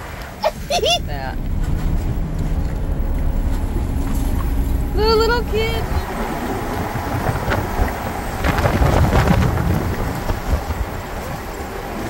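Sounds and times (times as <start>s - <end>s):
vehicle road noise rumble: 0.0s - 12.0s
wind buffeting microphone: 0.3s - 12.0s.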